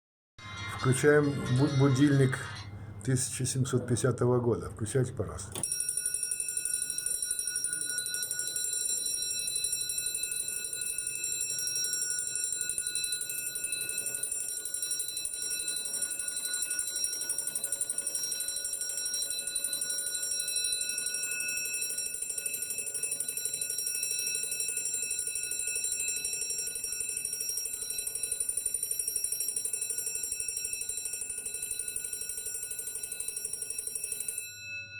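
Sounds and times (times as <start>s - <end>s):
clock alarm bell ringing: 5.6s - 34.9s.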